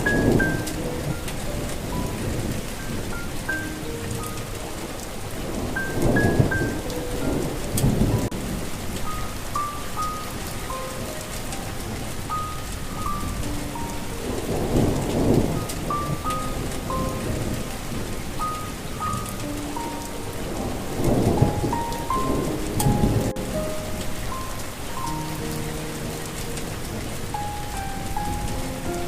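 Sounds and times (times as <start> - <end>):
slow melody of held notes: 0.0 - 29.0
steady rain: 0.0 - 29.0
thunder rumbling: 0.0 - 29.0.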